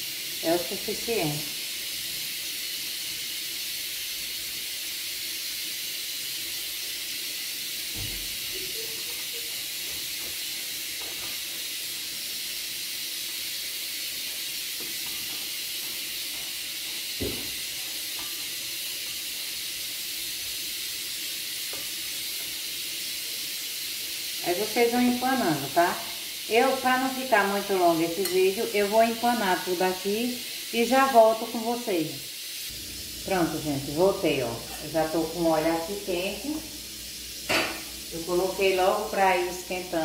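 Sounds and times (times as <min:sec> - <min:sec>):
steady high hiss: 0:00.0 - 0:40.0.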